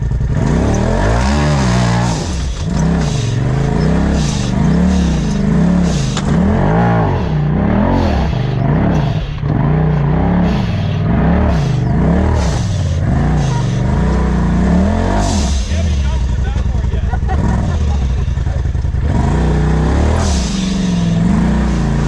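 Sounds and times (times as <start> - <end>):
off-road engine revving: 0.0 - 22.0.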